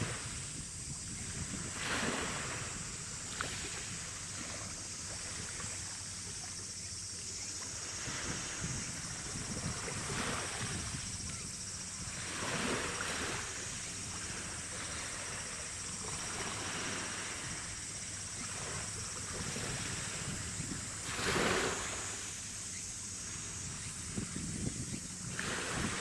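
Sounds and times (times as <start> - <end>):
wind buffeting microphone: 0.0 - 5.5, 7.8 - 22.2, 23.2 - 26.0.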